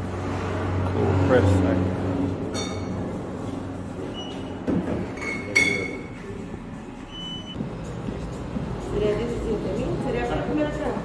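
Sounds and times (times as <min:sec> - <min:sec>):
restaurant low rumble: 0:00.0 - 0:11.0.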